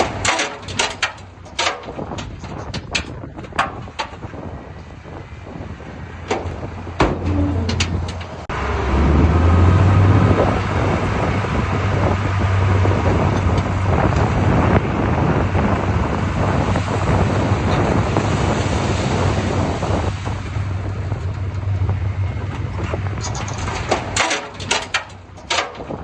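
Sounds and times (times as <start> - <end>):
heavy diesel machinery rumbling: 0.0 - 26.0.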